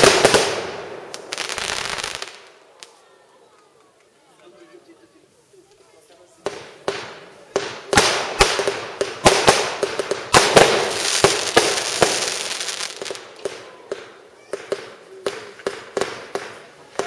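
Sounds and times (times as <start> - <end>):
fireworks banging and crackling: 0.0 - 4.6, 5.4 - 17.0.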